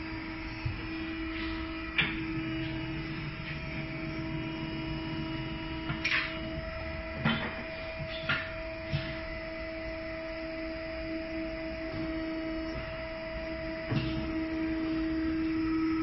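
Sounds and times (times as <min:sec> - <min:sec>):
turntable motor humming: 0:00.0 - 0:16.0.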